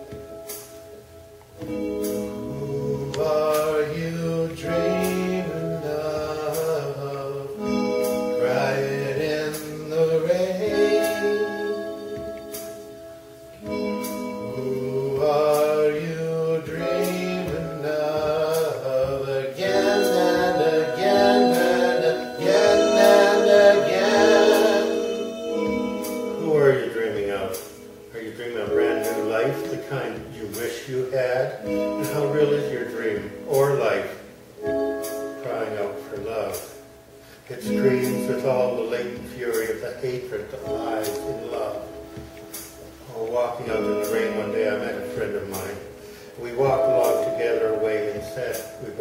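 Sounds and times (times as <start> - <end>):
electronic keyboard organ-like chords: 0.0 - 49.0.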